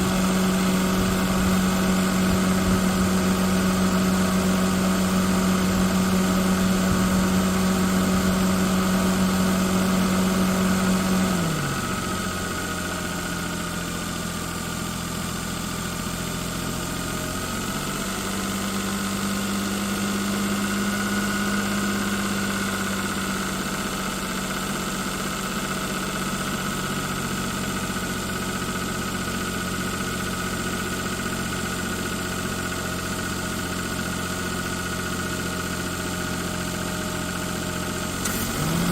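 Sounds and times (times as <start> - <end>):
engine running with abnormal noise: 0.0 - 38.9.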